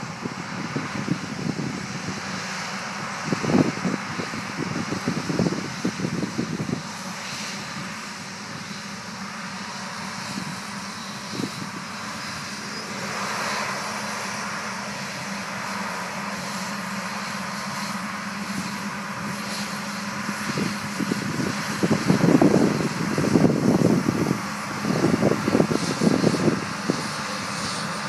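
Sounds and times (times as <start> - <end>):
tractor engine drone: 0.0 - 28.0.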